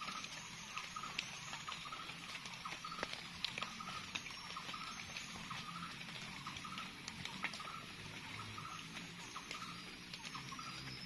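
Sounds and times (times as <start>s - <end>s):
rain pattering on foliage: 0.0s - 11.0s
sharp drips: 0.0s - 11.0s.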